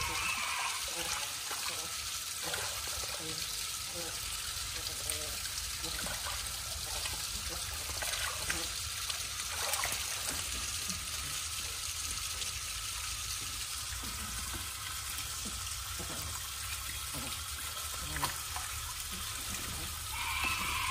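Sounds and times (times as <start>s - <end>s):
water trickling into pool: 0.0s - 20.9s.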